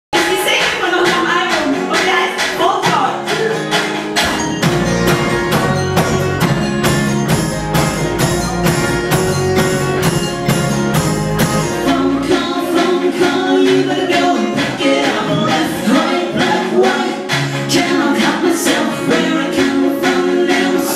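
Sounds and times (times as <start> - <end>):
percussion beat: 0.1 - 20.9
strummed chords: 0.2 - 20.9.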